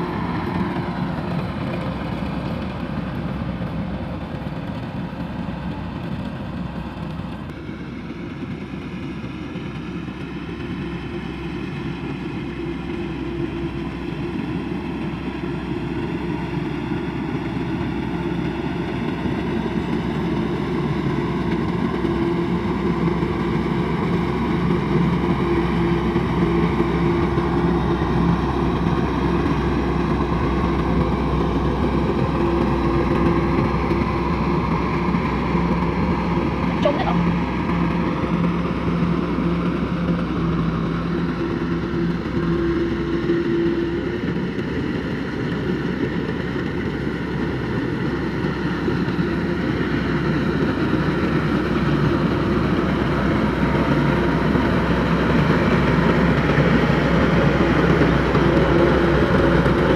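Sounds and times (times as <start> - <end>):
combine harvester engine and machinery: 0.0 - 59.9.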